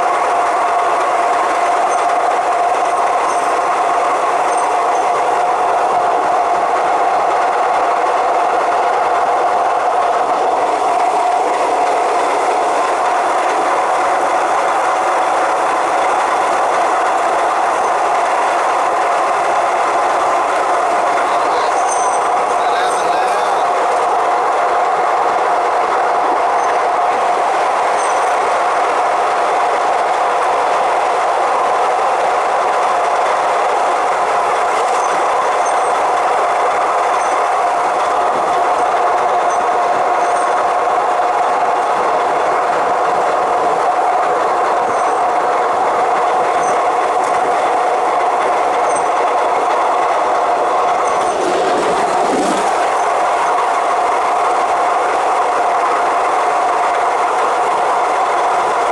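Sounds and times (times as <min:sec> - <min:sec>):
electric train running at speed: 0:00.0 - 0:58.9.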